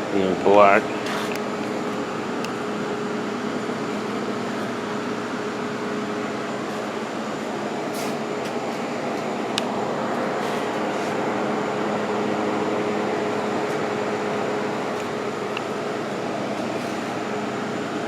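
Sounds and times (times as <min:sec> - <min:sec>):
mechanical whirring hum: 0:00.0 - 0:18.0.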